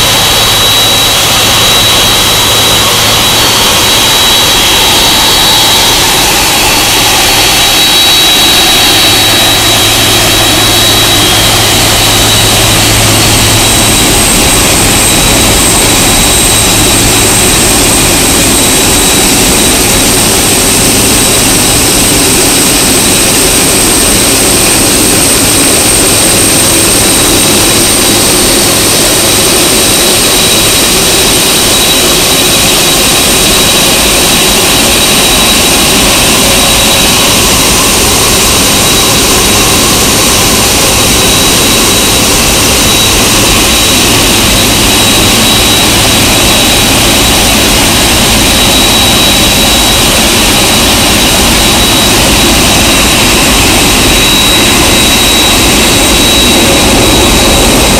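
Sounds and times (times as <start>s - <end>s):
jet engine roar with high whine: 0.0s - 57.9s.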